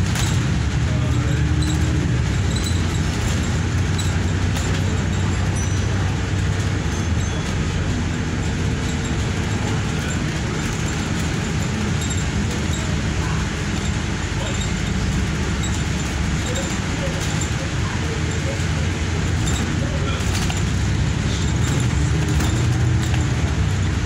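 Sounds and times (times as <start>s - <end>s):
bus engine drone: 0.0s - 24.0s
road noise: 0.0s - 24.0s.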